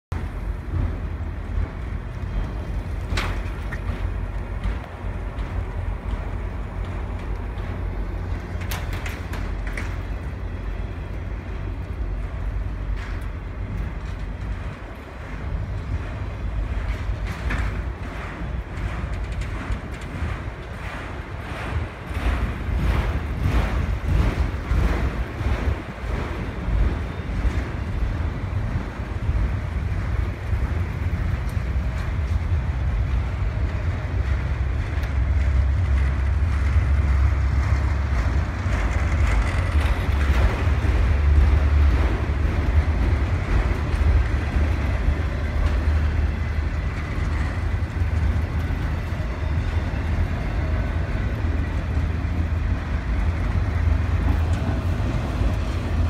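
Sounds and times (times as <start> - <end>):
train wheels rumbling on rails: 0.0 - 56.0
wheel clacks: 0.1 - 56.0
wind buffeting microphone: 0.1 - 56.0.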